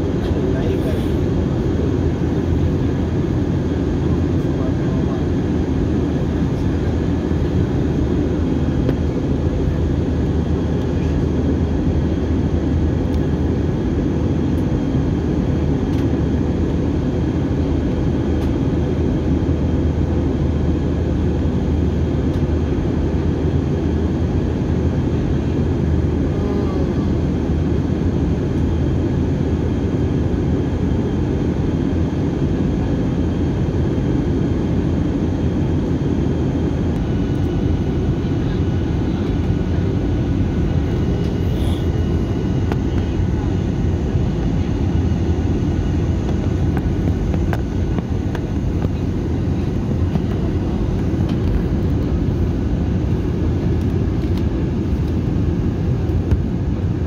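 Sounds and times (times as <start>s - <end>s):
engine and airflow rush: 0.0s - 57.0s
faint steady whines: 0.0s - 57.0s.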